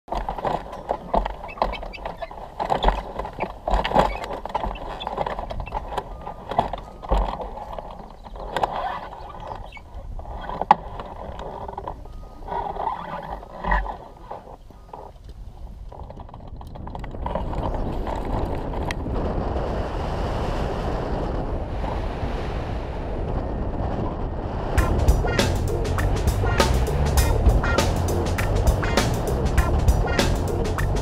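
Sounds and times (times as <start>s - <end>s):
wind buffeting microphone: 0.1s - 31.0s.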